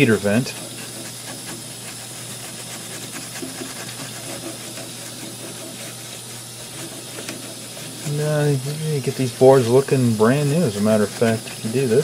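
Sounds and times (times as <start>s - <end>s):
wet brush scrubbing: 0.0s - 12.0s.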